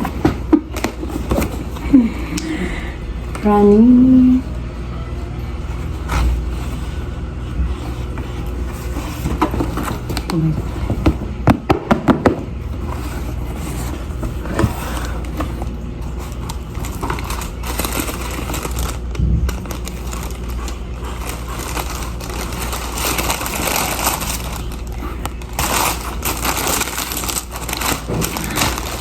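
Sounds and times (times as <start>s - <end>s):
packaging rustling and scraping: 0.0s - 2.2s, 4.9s - 29.0s.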